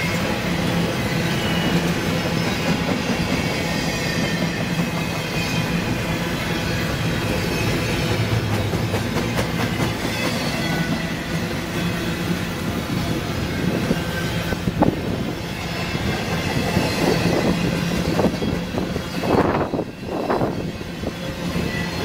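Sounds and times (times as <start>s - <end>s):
freight train rolling past: 0.0s - 22.0s
wheels squealing on rails: 0.0s - 22.0s.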